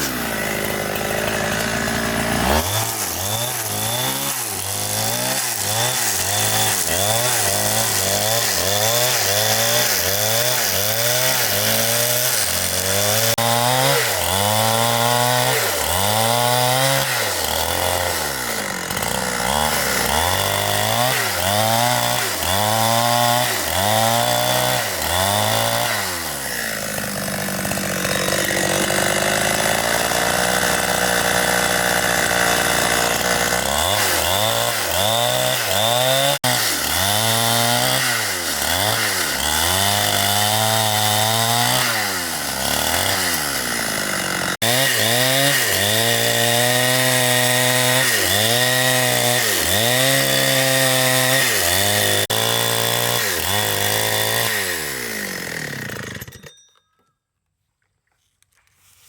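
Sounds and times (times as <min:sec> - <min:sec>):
chainsaw cutting: 0:00.0 - 0:56.8.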